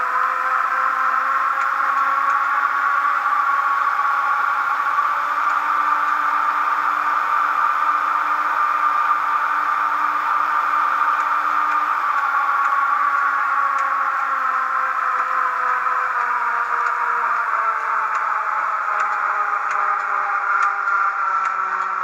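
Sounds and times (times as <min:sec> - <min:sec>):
electric locomotive humming and whining: 0:00.0 - 0:22.0.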